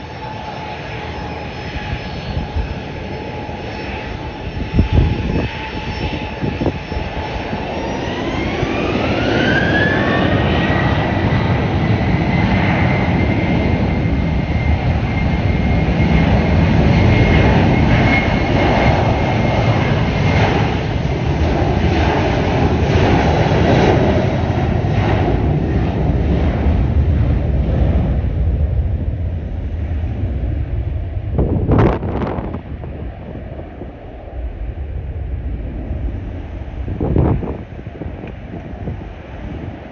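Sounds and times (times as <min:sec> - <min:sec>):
jet engines spooling up: 0:00.0 - 0:39.9.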